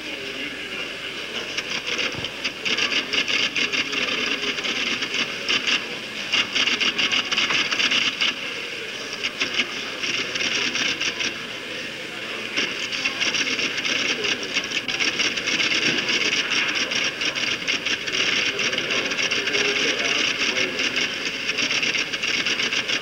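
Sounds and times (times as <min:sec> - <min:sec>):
office machines clattering: 0:00.0 - 0:23.0.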